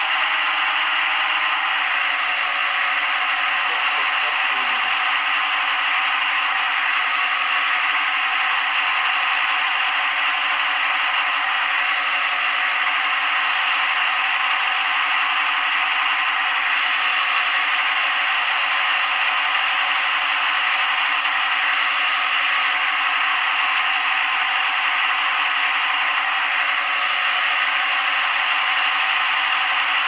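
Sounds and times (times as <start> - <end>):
lathe grinding noise: 0.0 - 30.0.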